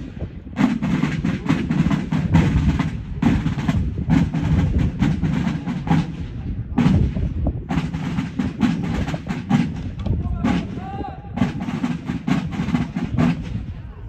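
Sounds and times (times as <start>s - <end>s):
drums beaten quickly: 0.0s - 13.7s.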